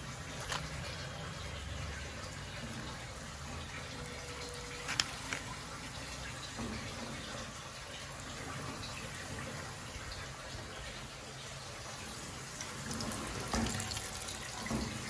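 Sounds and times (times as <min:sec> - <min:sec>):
fish deep-frying in hot oil: 0:00.0 - 0:15.0.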